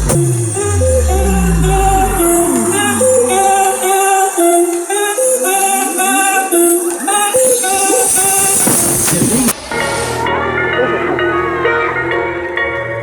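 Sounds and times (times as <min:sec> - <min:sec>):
funk music on car sound system: 0:00.0 - 0:13.0.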